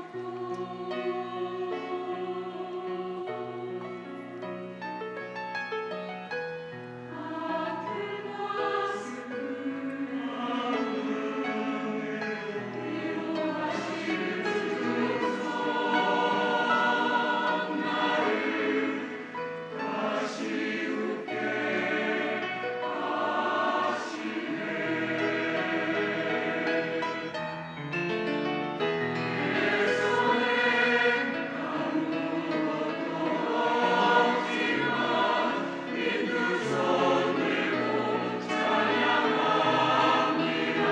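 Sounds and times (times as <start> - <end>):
church choir singing: 0.0 - 4.9, 6.7 - 40.9.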